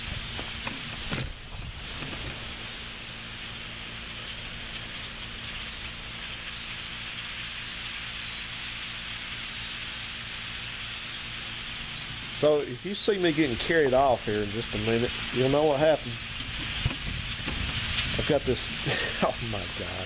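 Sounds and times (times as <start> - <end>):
flock of birds calling: 0.0 - 20.0
low hum: 0.0 - 20.0.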